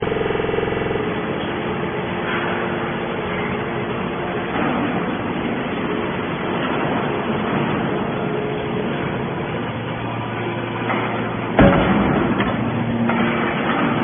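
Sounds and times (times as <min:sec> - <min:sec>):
gas engine running: 0:00.0 - 0:14.0.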